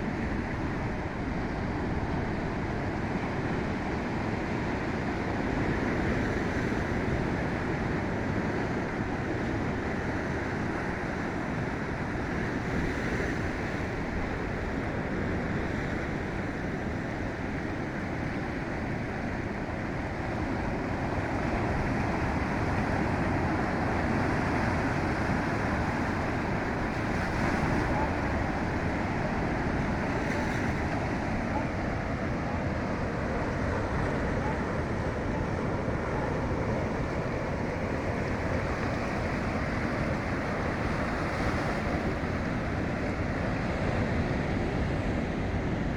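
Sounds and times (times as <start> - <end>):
ocean waves on a beach: 0.0 - 45.9.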